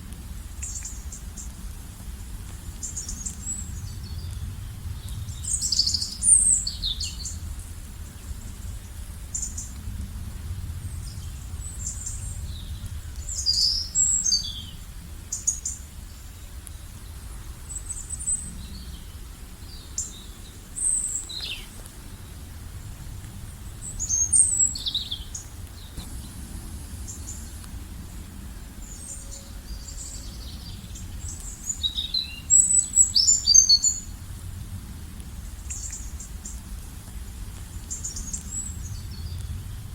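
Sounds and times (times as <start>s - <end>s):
low outdoor rumble: 0.0s - 39.9s
songbirds chirping: 0.4s - 34.5s, 35.3s - 39.9s.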